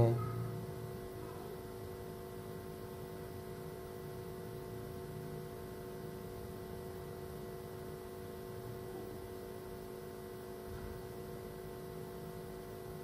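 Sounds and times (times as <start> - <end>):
faint hum and hiss: 0.0 - 13.0.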